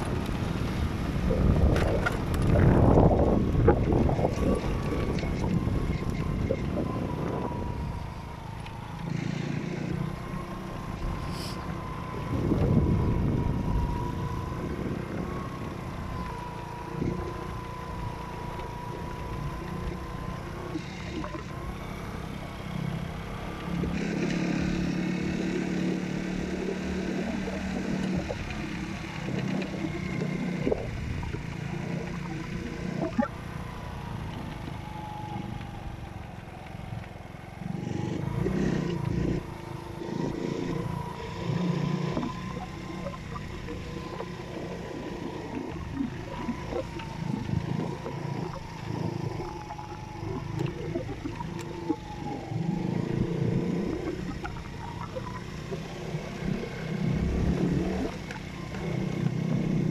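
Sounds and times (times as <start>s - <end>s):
small motorcycle engine: 0.0s - 59.9s
thin steady whine: 2.4s - 59.9s.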